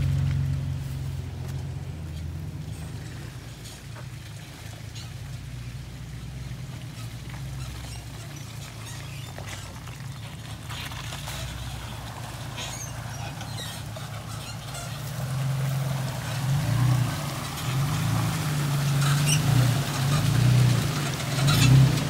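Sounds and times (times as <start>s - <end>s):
vehicle engine running low: 0.0s - 22.0s.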